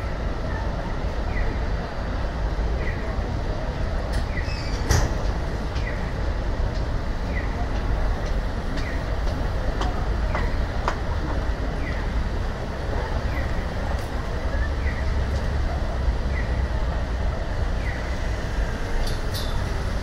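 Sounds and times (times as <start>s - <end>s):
crowd: 0.0s - 20.0s
traffic: 0.0s - 20.0s.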